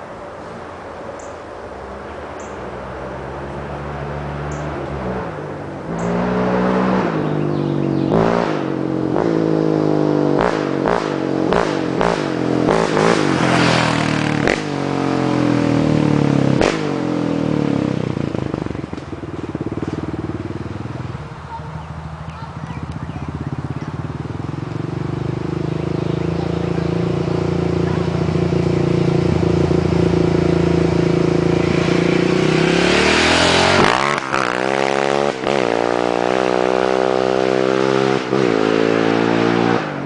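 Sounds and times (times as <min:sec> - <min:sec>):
atv engine revving: 0:02.4 - 0:40.0.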